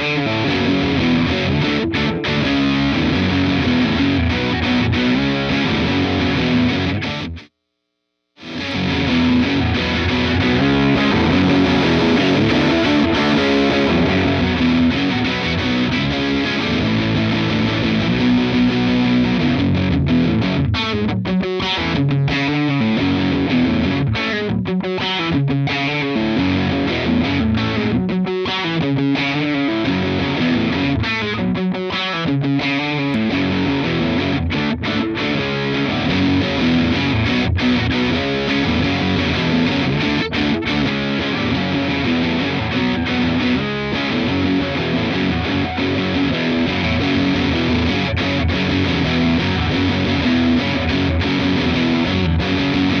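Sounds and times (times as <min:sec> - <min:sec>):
distorted electric guitar: 0:00.0 - 0:07.6, 0:08.4 - 0:53.0.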